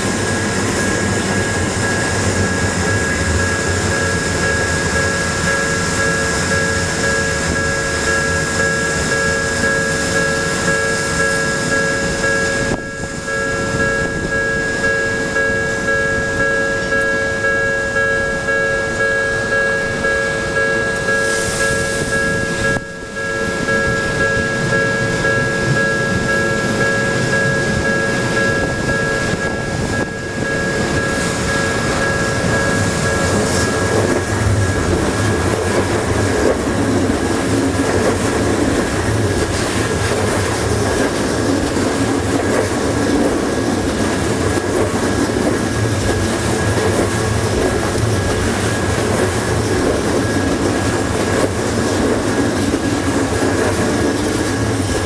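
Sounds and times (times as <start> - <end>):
level crossing warning bell: 0.0 - 55.0
train rumbling past: 0.0 - 55.0.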